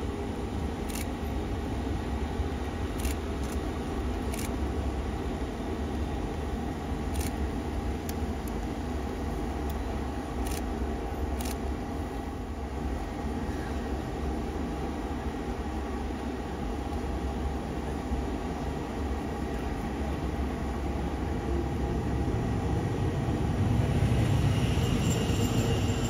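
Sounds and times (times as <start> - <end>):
electric locomotive rumbling: 0.0 - 26.0.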